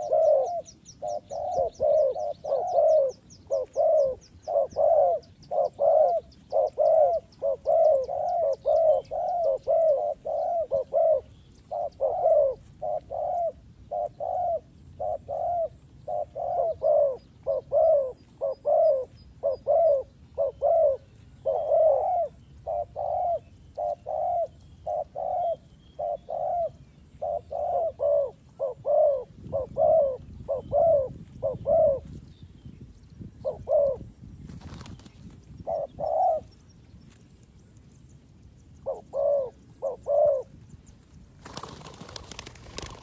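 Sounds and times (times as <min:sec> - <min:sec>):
dove cooing: 0:00.0 - 0:32.2, 0:33.3 - 0:34.8, 0:35.6 - 0:36.5, 0:38.8 - 0:40.6.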